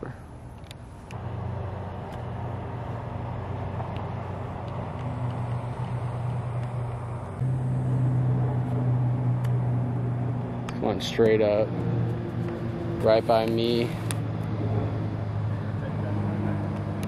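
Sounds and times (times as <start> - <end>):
engine humming: 0.4 - 17.0.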